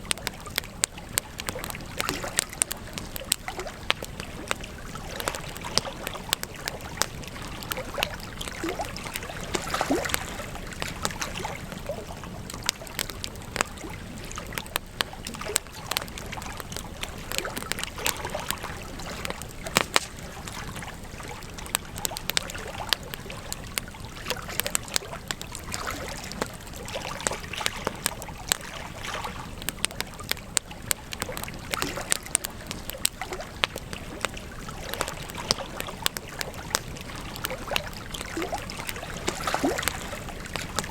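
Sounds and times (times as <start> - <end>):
soft fire hiss: 0.0 - 40.9
wood campfire crackling: 0.0 - 40.9.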